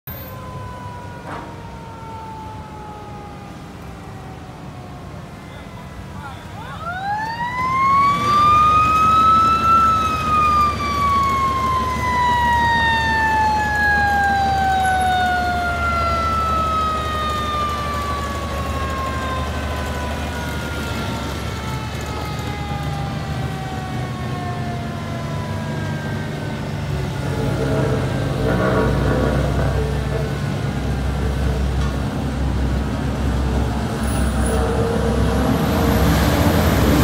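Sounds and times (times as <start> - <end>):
mechanical siren wailing: 0.1 - 31.5
heavy engine rumbling: 0.3 - 37.0.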